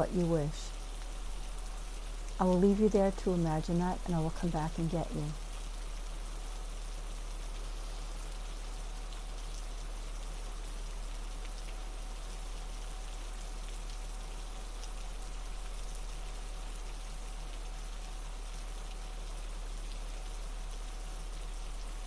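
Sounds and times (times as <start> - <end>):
falling water patter: 0.0 - 22.0
low steady hum: 0.0 - 22.0.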